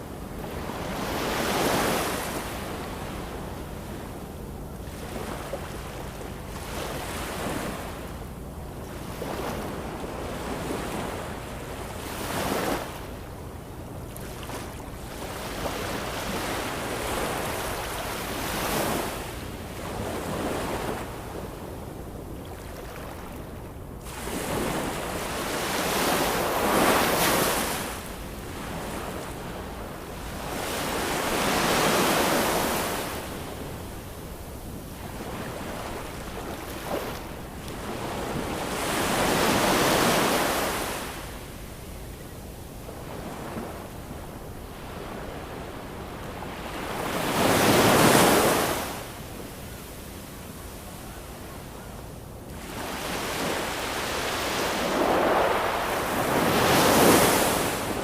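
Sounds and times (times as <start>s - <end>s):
low rumble of the sea: 0.0s - 58.0s.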